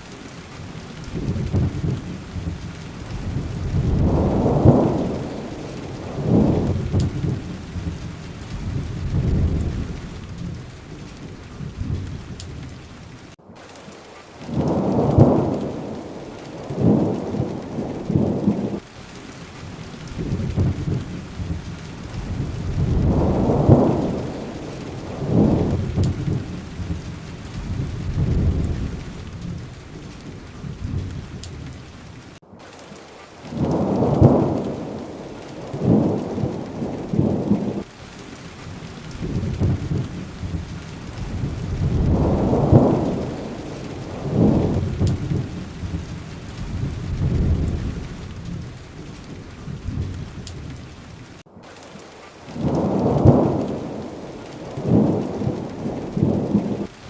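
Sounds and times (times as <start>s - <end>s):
rolling thunder: 0.0s - 13.4s, 14.4s - 18.8s, 19.8s - 32.4s, 33.5s - 51.4s, 52.5s - 57.0s
steady rain: 0.0s - 57.0s.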